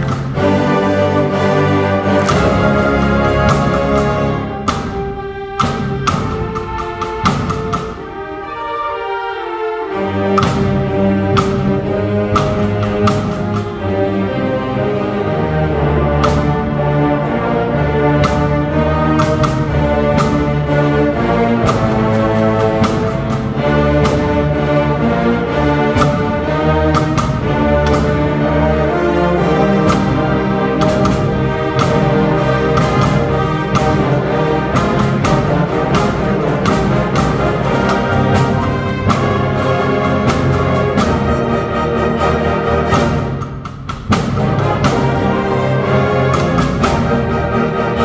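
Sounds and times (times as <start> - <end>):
percussion strokes: 0.0 - 9.0, 9.9 - 48.0
wind band playing: 0.0 - 48.0.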